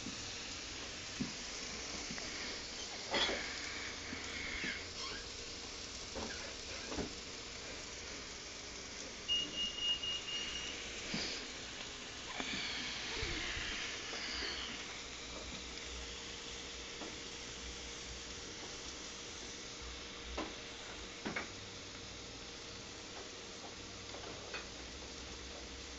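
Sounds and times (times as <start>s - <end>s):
food sizzling in a frying pan: 0.0s - 25.9s.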